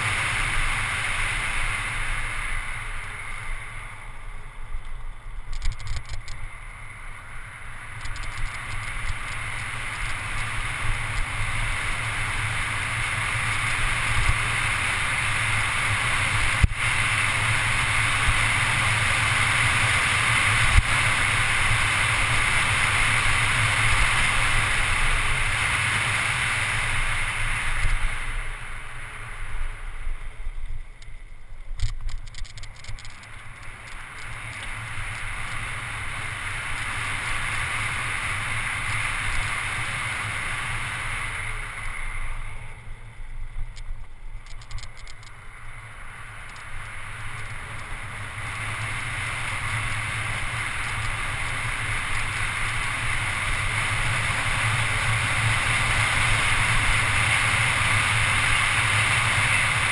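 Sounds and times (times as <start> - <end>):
wind rushing over camera: 0.0 - 59.9.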